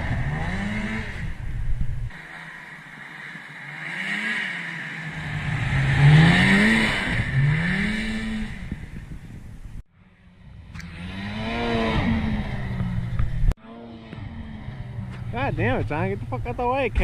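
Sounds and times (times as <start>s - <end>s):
small engine revving: 0.0s - 9.4s, 10.2s - 16.6s.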